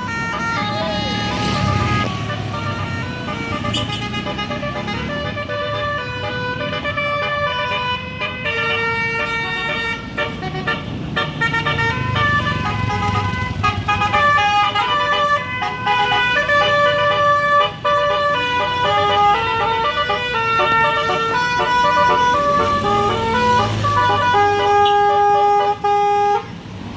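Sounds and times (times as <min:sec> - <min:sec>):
musical air horn melody: 0:00.0 - 0:26.6
vehicle engine running: 0:00.4 - 0:26.3.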